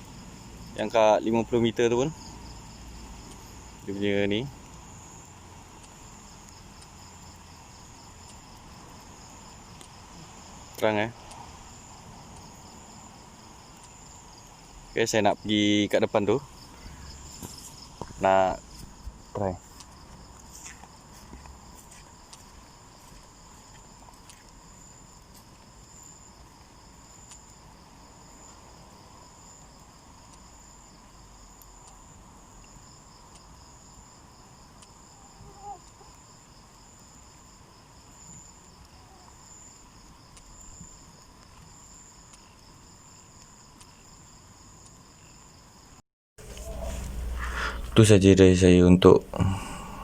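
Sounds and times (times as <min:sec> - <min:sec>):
crickets trilling: 0:00.0 - 0:50.0.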